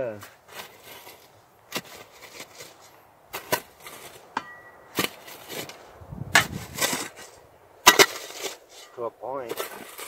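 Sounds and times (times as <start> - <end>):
shovel scraping in dirt: 0.1 - 10.0.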